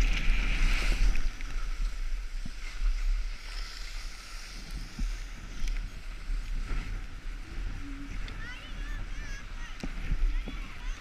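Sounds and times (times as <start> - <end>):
skis sliding on snow: 0.0 - 11.0
wind buffeting microphone: 0.0 - 11.0.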